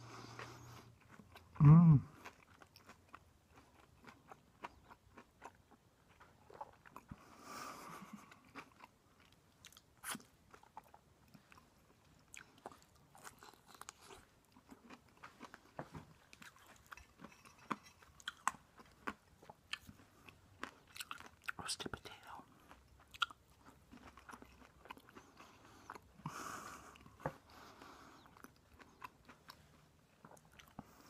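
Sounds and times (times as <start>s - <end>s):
chewing and biting food: 0.0s - 31.0s.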